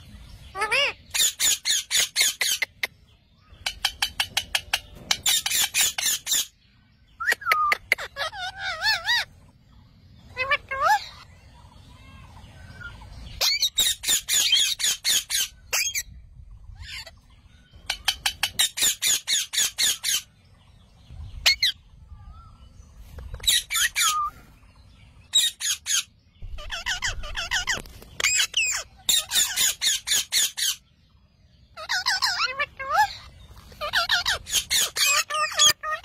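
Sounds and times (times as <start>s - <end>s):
parakeets squawking: 0.4s - 6.6s, 7.2s - 9.5s, 10.2s - 20.4s, 21.4s - 21.9s, 23.1s - 24.4s, 25.2s - 30.8s, 31.7s - 36.0s.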